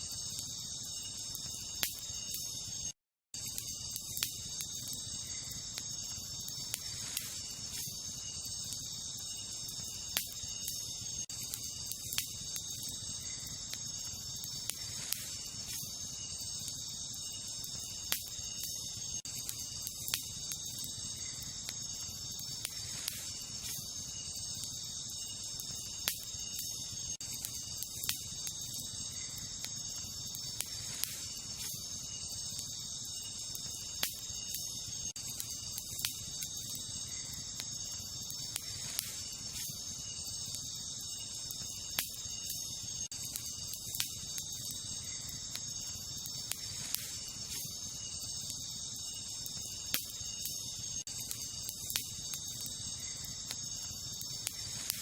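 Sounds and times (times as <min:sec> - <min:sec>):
campfire crackling: 0:00.0 - 0:55.0
night insects chorus: 0:00.0 - 0:55.0
sharp fire pops: 0:00.1 - 0:02.8, 0:03.4 - 0:55.0.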